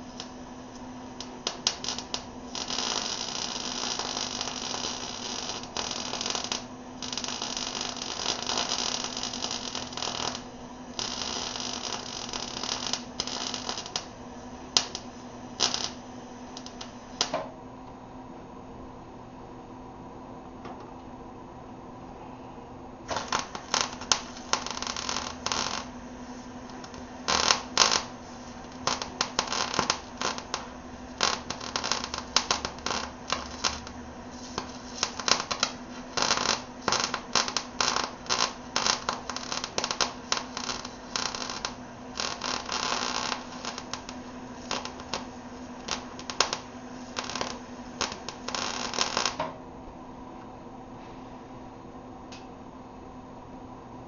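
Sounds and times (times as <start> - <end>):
arc welding crackling: 0.0 - 17.5, 23.0 - 49.6
steady low hum: 0.0 - 54.0.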